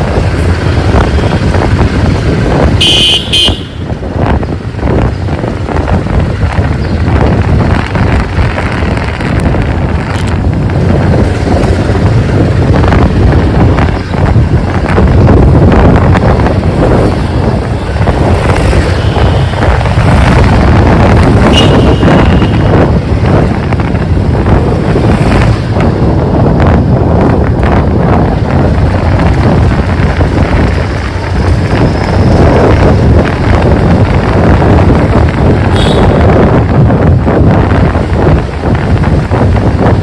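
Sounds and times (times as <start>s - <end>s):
motorcycle engine: 0.0s - 40.0s
road noise: 0.0s - 40.0s
wind buffeting microphone: 0.0s - 40.0s.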